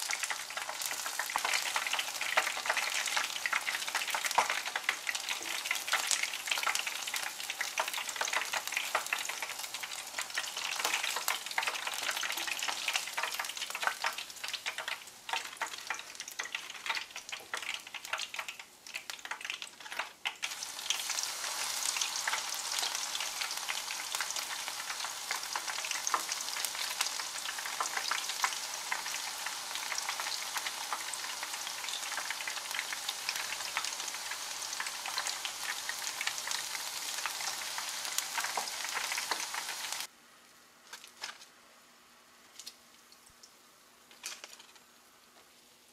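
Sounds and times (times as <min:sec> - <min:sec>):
battered food deep-frying in oil: 0:00.0 - 0:45.9
steady sizzle of frying leaves: 0:00.0 - 0:45.9.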